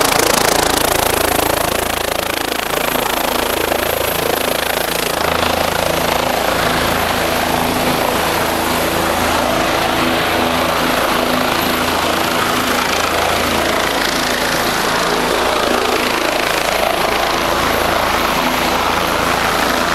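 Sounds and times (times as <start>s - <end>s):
helicopter engine and rotor: 0.0s - 19.9s.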